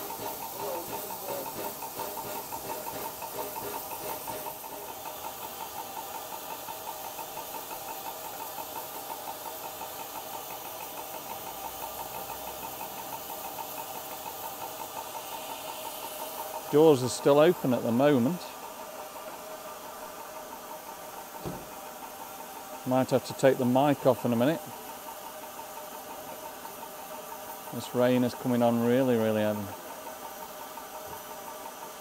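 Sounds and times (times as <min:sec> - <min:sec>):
steam hissing: 0:00.0 - 0:32.0
steam locomotive pulsing: 0:00.0 - 0:32.0.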